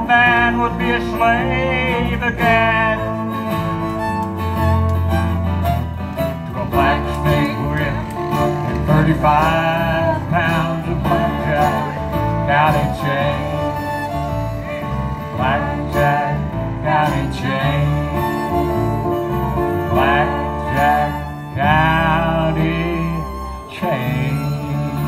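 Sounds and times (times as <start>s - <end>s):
bluegrass band playing: 0.0s - 25.0s
fiddle with sliding notes: 0.0s - 25.0s.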